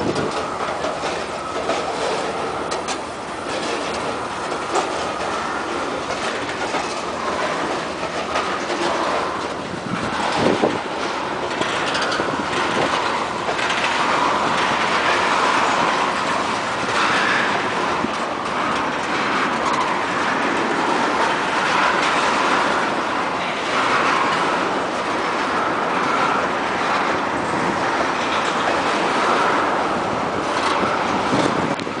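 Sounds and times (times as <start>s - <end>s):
train wheels clacking: 0.0s - 32.0s
wheel-on-rail roar: 0.0s - 32.0s.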